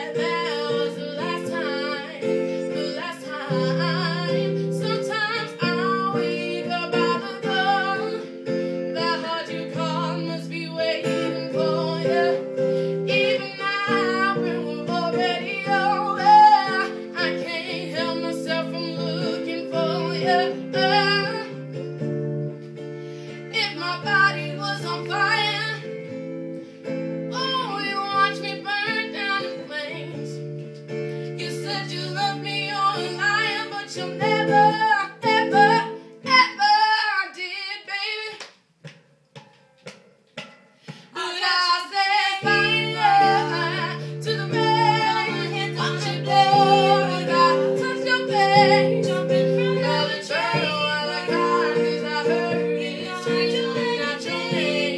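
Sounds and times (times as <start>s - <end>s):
women singing pop ballad: 0.0s - 21.8s, 23.1s - 26.1s, 27.3s - 30.4s, 31.1s - 38.4s, 40.9s - 54.9s
guitar chords: 0.0s - 36.9s, 41.9s - 54.9s.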